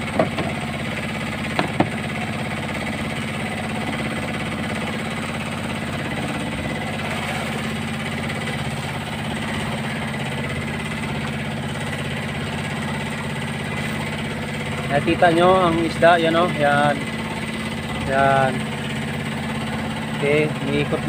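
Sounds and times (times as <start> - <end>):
small boat engine humming: 0.0 - 21.0.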